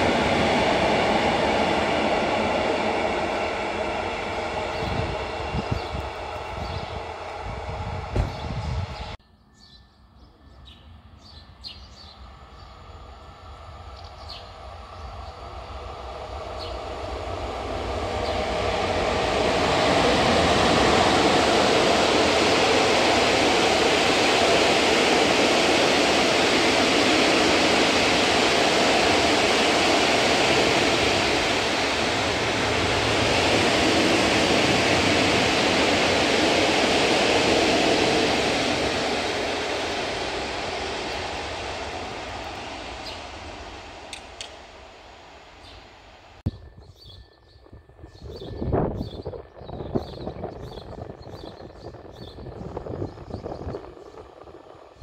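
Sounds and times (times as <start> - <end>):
wheels rushing on rails: 0.0 - 9.2, 10.3 - 55.0
freight train passing: 0.0 - 55.0.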